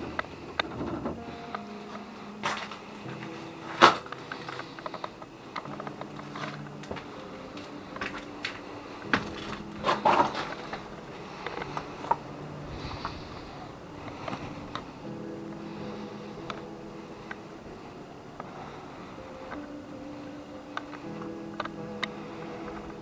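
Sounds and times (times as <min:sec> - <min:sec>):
faint steady tones: 0:00.0 - 0:23.0.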